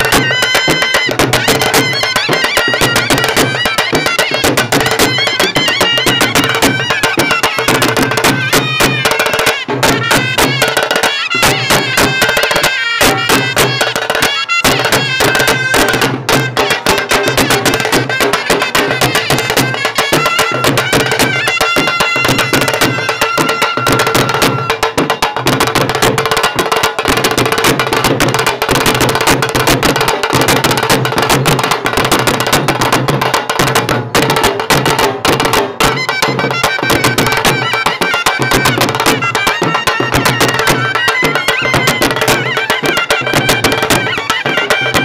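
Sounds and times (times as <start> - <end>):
folk melody: 0.0 - 32.2, 33.2 - 45.0
fast busy percussion: 0.0 - 45.0.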